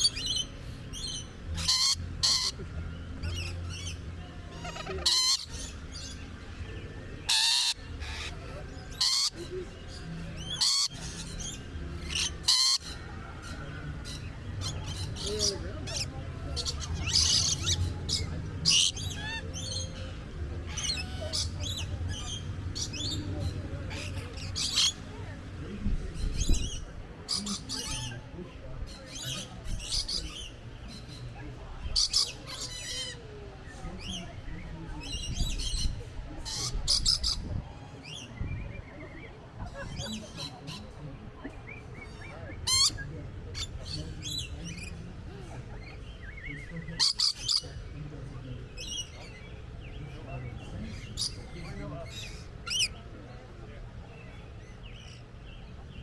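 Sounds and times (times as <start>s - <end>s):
lorikeets screeching: 0.0s - 25.1s, 26.2s - 38.3s, 41.6s - 45.0s, 45.8s - 47.9s, 48.7s - 53.4s.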